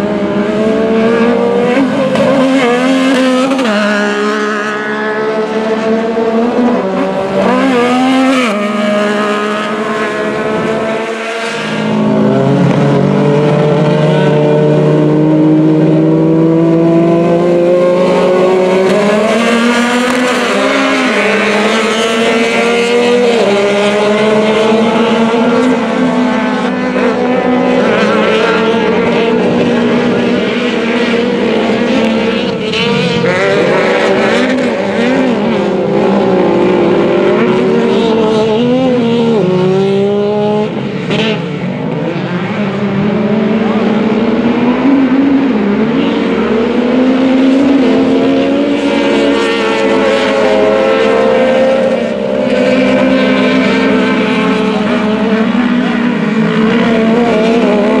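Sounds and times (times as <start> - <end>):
racing vehicle engines: 0.0 - 58.0.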